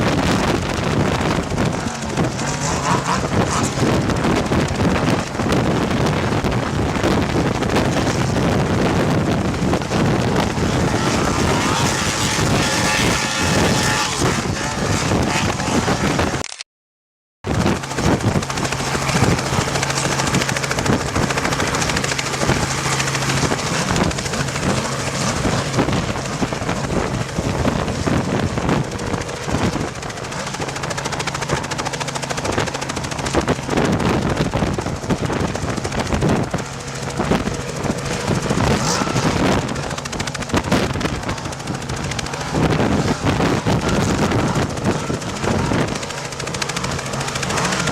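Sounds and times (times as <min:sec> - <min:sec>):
helicopter engine hum: 0:00.0 - 0:16.6, 0:17.4 - 0:47.9
helicopter rotor chop: 0:00.0 - 0:16.6, 0:17.4 - 0:47.9.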